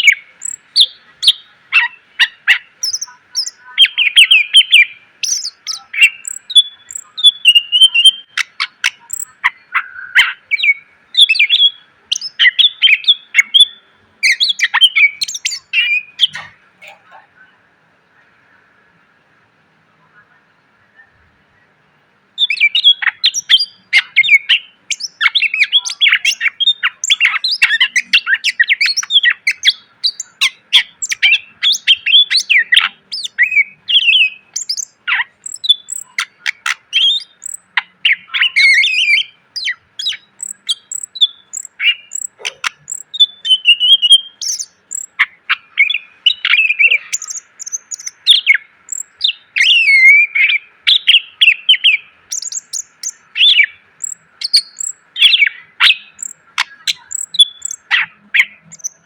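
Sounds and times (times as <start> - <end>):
bird singing chirps and whistles: 0.0 - 16.6, 22.4 - 59.0.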